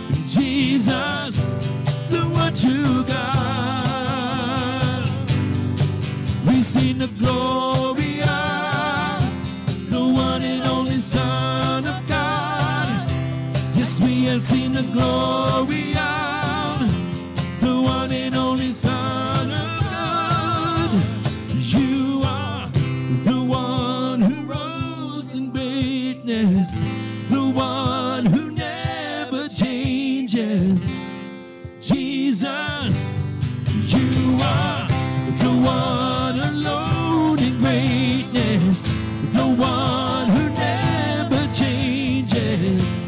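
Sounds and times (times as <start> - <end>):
man and woman singing: 0.0 - 5.5, 6.4 - 31.0, 31.8 - 43.0
keyboard: 0.0 - 43.0
strummed acoustic guitar: 0.0 - 43.0.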